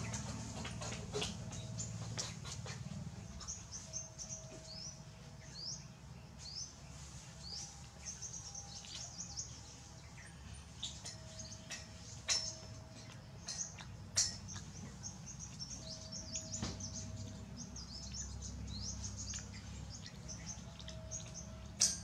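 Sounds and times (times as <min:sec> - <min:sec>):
low steady hum: 0:00.0 - 0:22.0
small birds chirping: 0:00.0 - 0:22.0.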